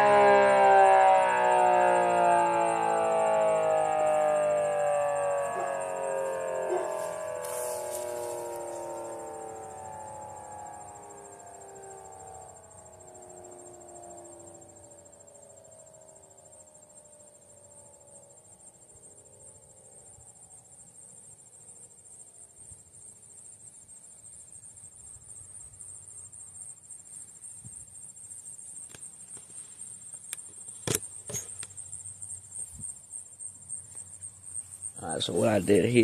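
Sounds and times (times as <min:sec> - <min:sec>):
faint siren tone: 0:00.0 - 0:27.3, 0:28.6 - 0:36.0
insects chirring: 0:00.0 - 0:36.0.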